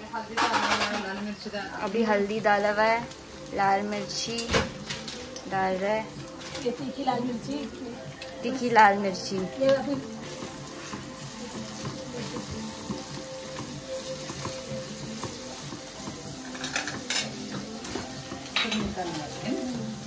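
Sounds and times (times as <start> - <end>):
onions sizzling in a pot: 0.0 - 20.0.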